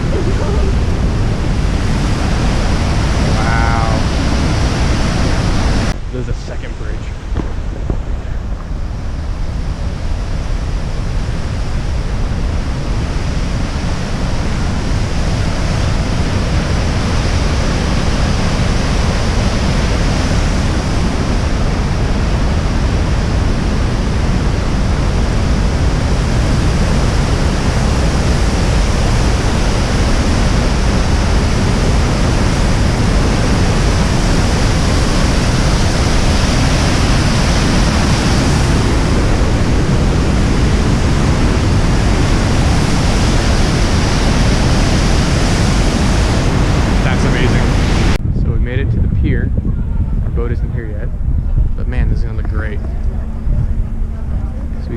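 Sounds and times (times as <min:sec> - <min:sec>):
white water rushing: 0:00.0 - 0:48.2.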